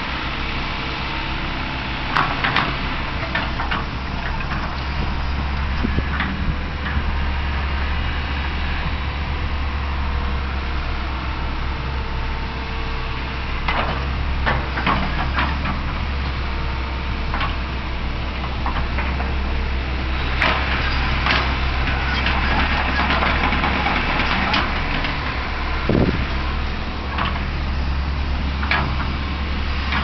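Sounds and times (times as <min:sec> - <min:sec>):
excavator diesel engine: 0:00.0 - 0:30.0.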